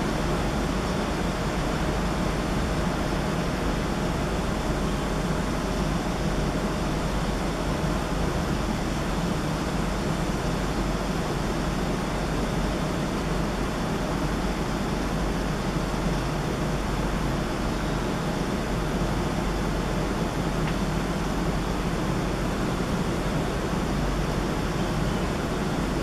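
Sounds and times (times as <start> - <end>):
faint steady hum: 0.0 - 26.0
urban rumble and hiss: 0.0 - 26.0.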